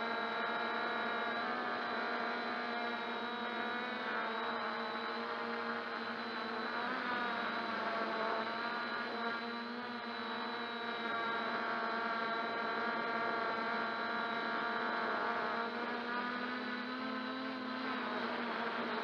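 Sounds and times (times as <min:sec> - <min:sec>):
quadcopter buzzing whine: 0:00.0 - 0:19.0.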